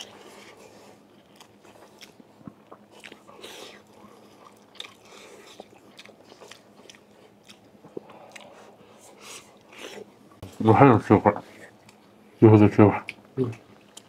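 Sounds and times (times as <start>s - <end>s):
man chewing food: 0.0s - 10.6s, 11.3s - 12.4s, 13.0s - 14.0s.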